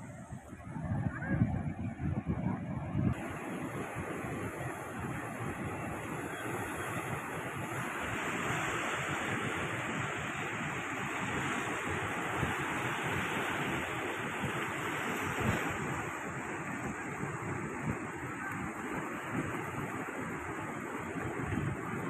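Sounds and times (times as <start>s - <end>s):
surf washing over rocks: 3.1s - 22.0s.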